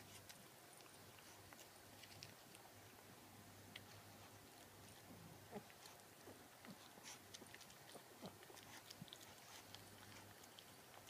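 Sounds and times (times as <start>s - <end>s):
dog crunching dry kibble: 0.0s - 3.0s, 3.6s - 11.0s
low steady hum: 0.0s - 11.0s.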